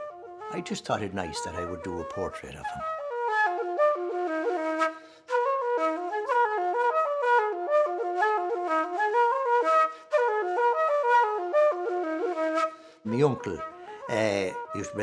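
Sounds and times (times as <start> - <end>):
wooden flute playing a fast tune: 0.0 - 15.0.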